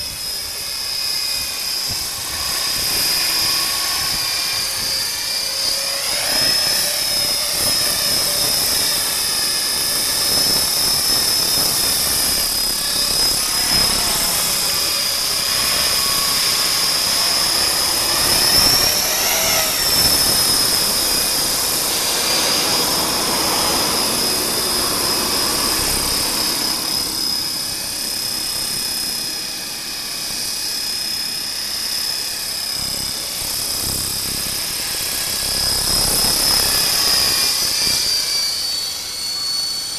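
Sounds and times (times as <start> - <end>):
helicopter rotor noise: 0.0 - 39.9
rc helicopter motor whine: 0.0 - 39.9.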